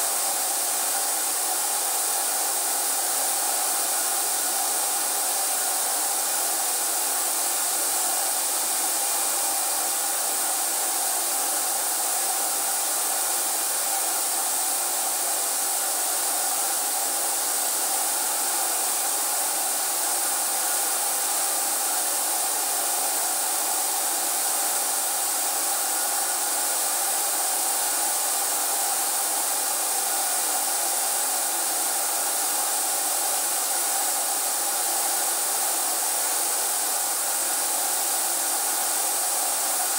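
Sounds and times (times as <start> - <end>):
spray gun hissing: 0.0 - 39.9.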